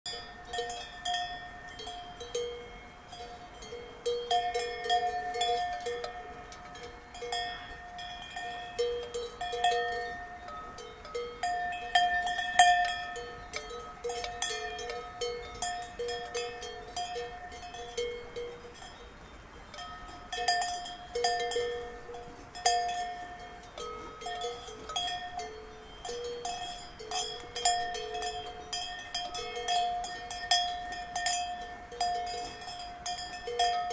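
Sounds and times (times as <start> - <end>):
cowbells clanking: 0.1 - 33.9.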